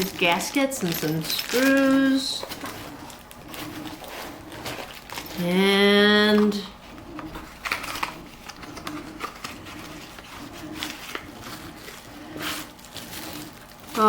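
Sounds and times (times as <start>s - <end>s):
packaging rustling: 0.0s - 5.6s, 6.2s - 14.0s.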